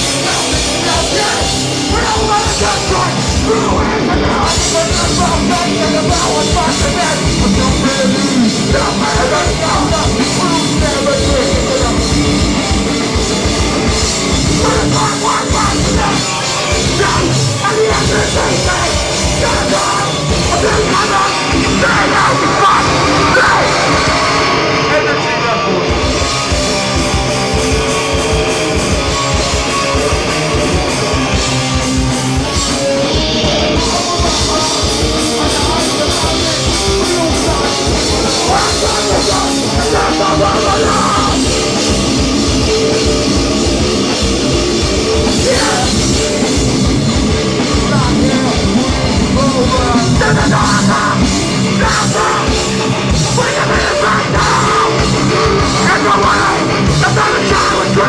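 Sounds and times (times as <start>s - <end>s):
fast drumming: 0.0s - 25.0s, 25.8s - 58.0s
distorted electric guitars: 0.0s - 58.0s.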